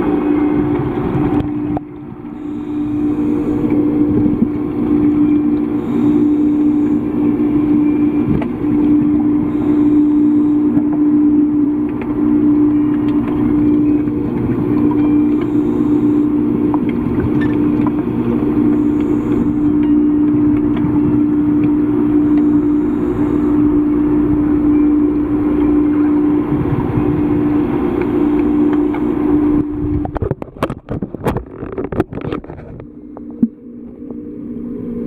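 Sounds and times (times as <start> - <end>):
low steady tone: 0.0 - 31.0, 31.6 - 35.0
underwater mechanical hum: 0.0 - 35.0.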